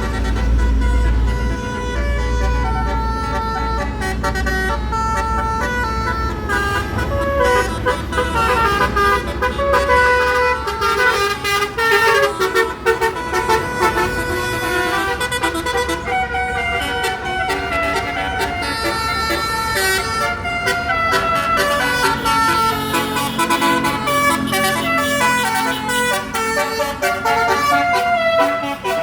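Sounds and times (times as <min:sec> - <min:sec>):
bus engine rumble: 0:00.0 - 0:29.0
multi-tone bus horn tune: 0:00.0 - 0:29.0.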